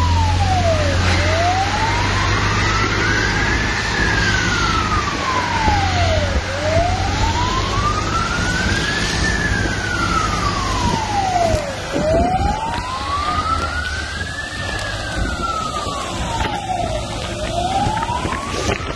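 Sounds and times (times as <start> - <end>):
fire engine siren wailing: 0.0 - 18.9.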